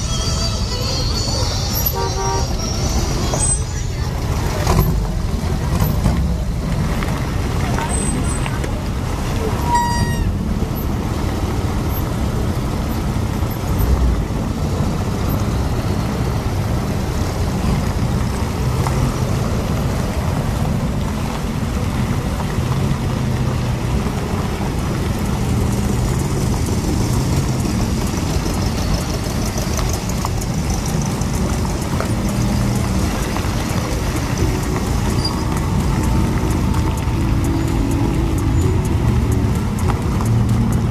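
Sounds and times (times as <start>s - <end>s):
trike engines running: 0.0s - 40.9s.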